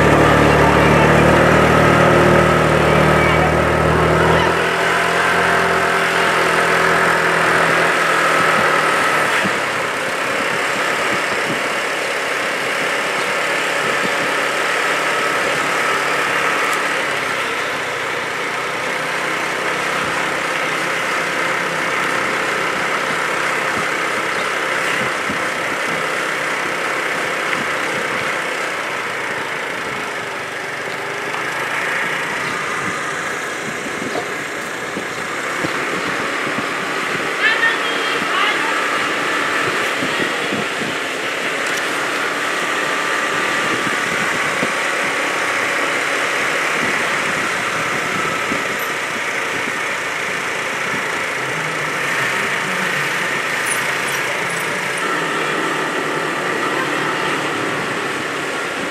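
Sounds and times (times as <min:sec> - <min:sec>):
vehicle engine droning: 0:00.0 - 0:58.9.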